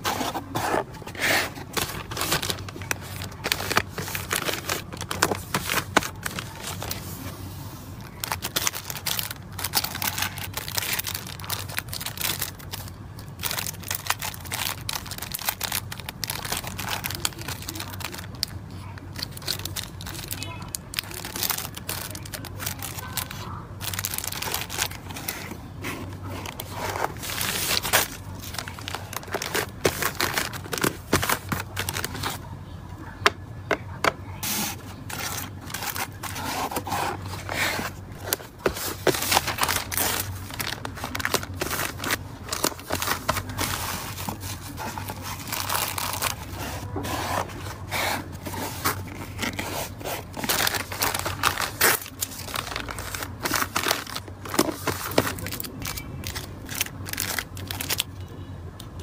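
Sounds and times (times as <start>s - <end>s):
cellophane and bubble wrap crinkling: 0.0s - 32.5s, 34.4s - 58.1s.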